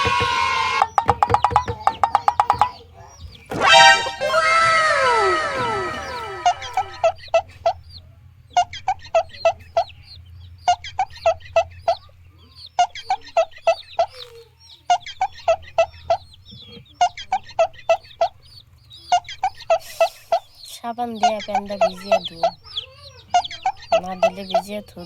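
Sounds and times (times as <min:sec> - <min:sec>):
chicken clucking: 0:00.0 - 0:25.0.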